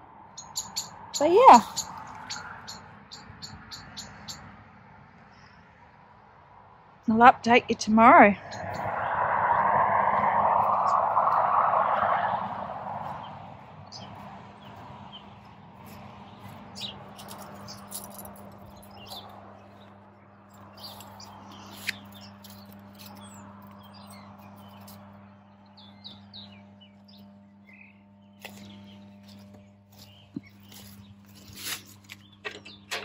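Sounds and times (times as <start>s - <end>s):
small birds chirping: 0.3s - 4.5s, 7.5s - 9.2s, 12.4s - 33.0s.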